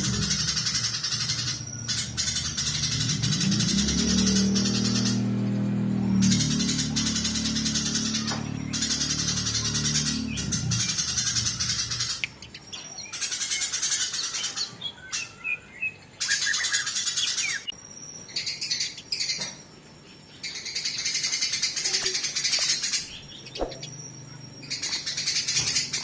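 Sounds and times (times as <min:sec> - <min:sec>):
sparrows chattering: 0:00.0 - 0:26.0.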